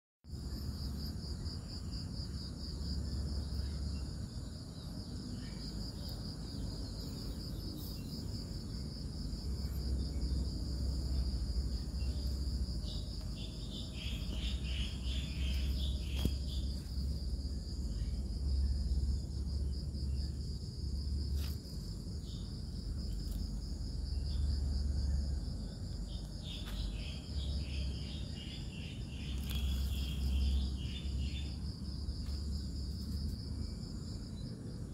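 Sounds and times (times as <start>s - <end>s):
insects trilling: 0.3s - 34.9s.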